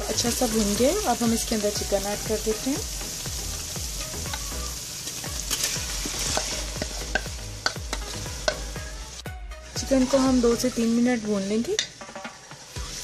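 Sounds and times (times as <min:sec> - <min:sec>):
sauce sizzling in a pot: 0:00.0 - 0:13.0.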